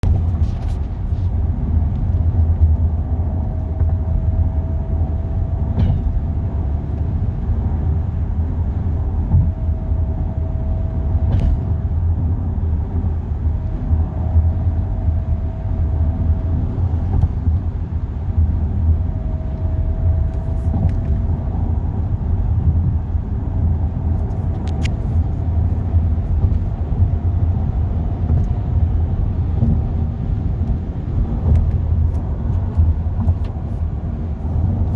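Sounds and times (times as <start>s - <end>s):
road and drivetrain rumble: 0.0s - 34.9s.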